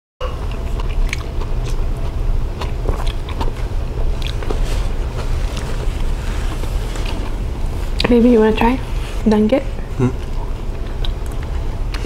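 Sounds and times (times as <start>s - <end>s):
person chewing: 0.2s - 8.0s, 9.9s - 12.0s
steady low rumble: 0.2s - 12.0s.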